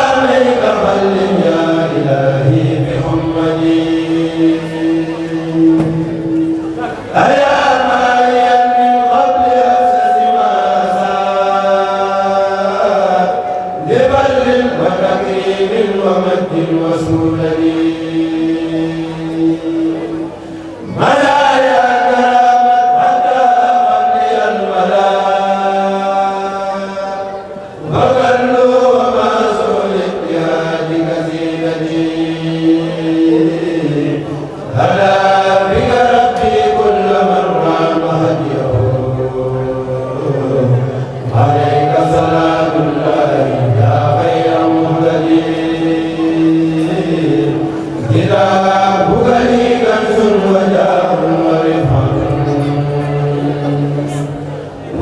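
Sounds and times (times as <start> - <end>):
group chanting a cappella: 0.0 - 55.0.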